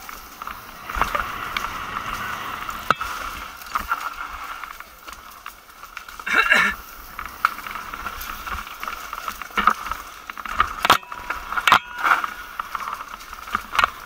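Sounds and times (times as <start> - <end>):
mountain bike rattling over dirt: 0.0 - 14.0.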